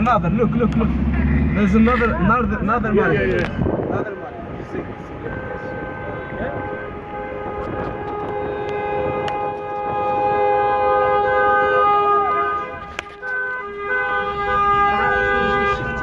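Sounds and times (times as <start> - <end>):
car horns honking: 0.0 - 16.0.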